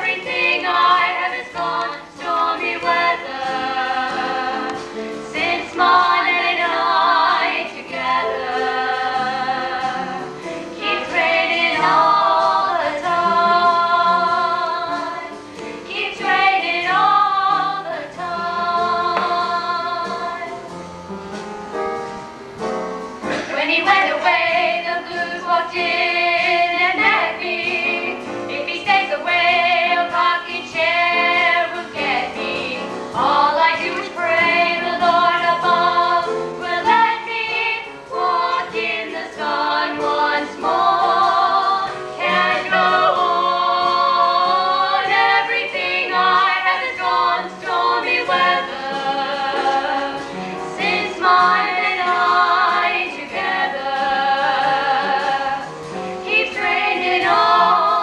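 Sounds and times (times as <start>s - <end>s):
girls singing together: 0.0s - 20.7s, 23.3s - 58.0s.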